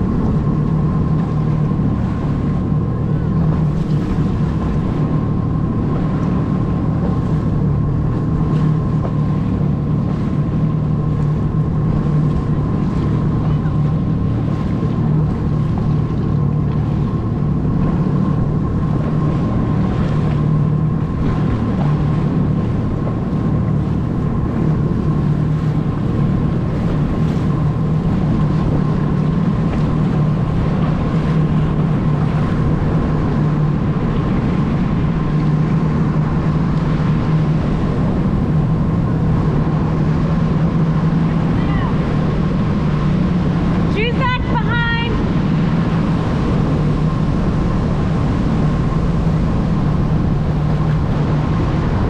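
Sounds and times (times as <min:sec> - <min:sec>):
jet ski engine running: 0:00.0 - 0:52.0
wind noise on microphone: 0:00.0 - 0:52.0.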